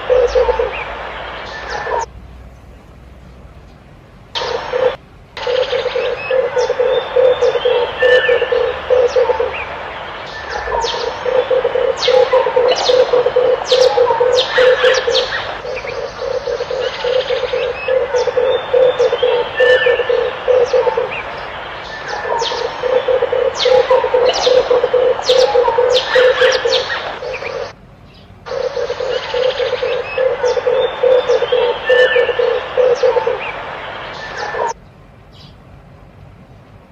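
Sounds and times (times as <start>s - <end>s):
dove cooing: 0.0s - 2.1s, 4.4s - 27.8s, 28.5s - 34.8s
small birds chirping: 0.0s - 35.7s.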